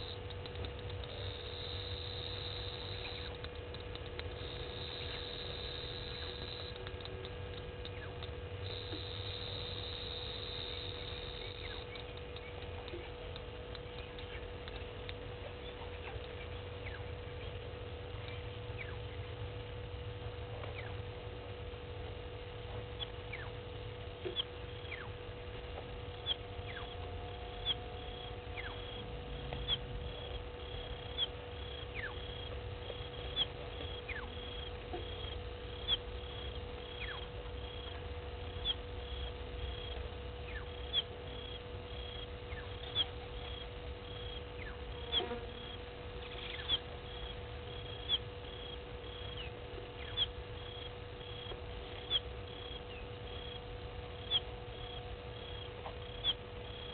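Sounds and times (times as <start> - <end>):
steady hum with low rumble: 0.0 - 56.9.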